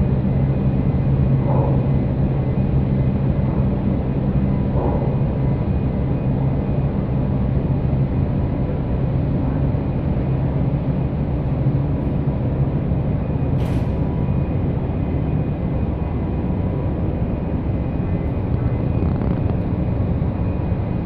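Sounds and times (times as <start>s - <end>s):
ship engines rumbling: 0.0s - 21.0s.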